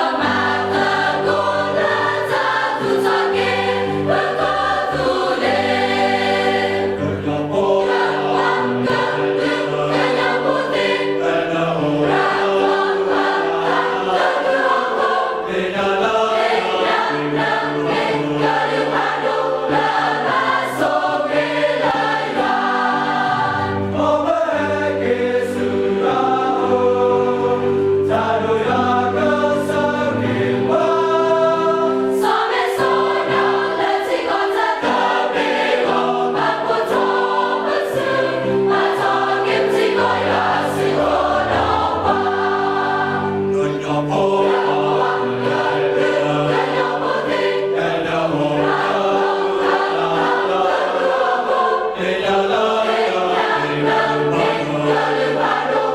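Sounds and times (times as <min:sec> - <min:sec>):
mixed choir singing in harmony: 0:00.0 - 0:55.9.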